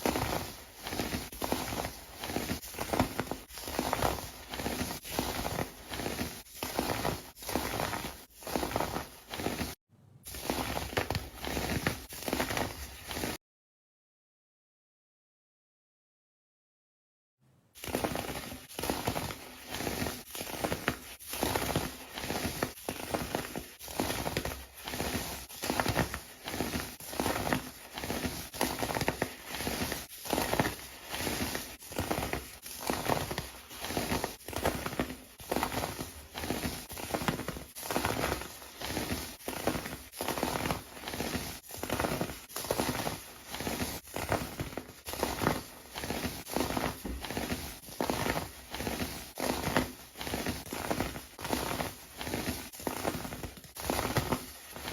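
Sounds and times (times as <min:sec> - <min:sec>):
sand being crushed: 0:00.0 - 0:13.4, 0:17.8 - 0:54.9.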